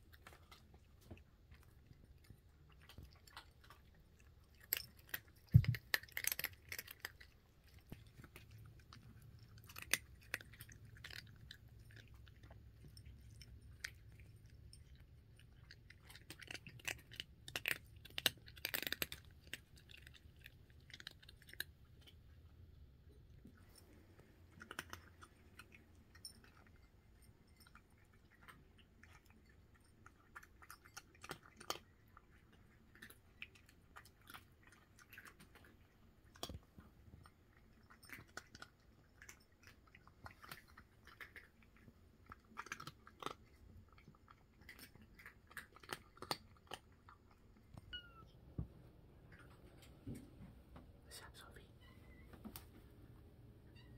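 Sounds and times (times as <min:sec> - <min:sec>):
cats crunching dry kibble: 0:00.0 - 0:48.0.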